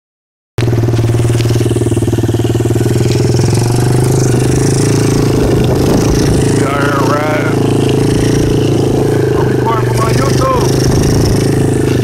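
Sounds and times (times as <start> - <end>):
atv engine running: 0.6 - 12.0.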